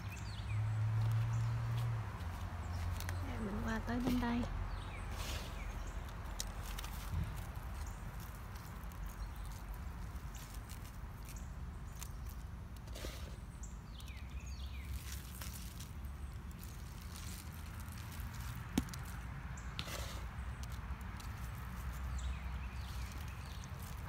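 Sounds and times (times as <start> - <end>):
eggshell pattering on soil: 0.0 - 24.0.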